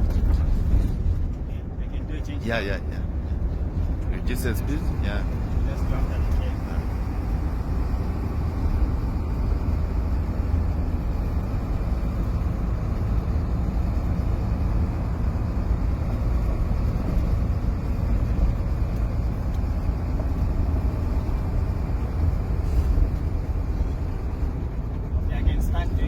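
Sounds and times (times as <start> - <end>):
road noise: 0.0 - 26.0
truck diesel engine rumble: 0.0 - 26.0.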